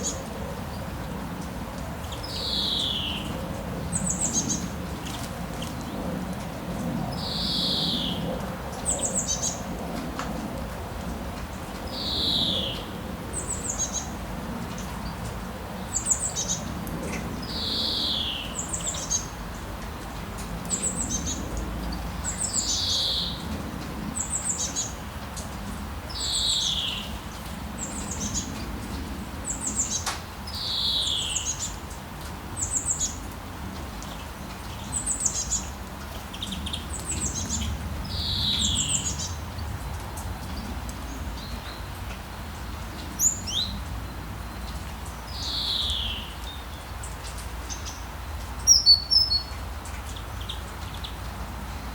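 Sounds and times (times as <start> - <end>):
birds singing: 1.8 - 6.1, 7.1 - 9.7, 11.7 - 20.0, 20.6 - 31.9, 32.6 - 33.3, 34.0 - 51.9.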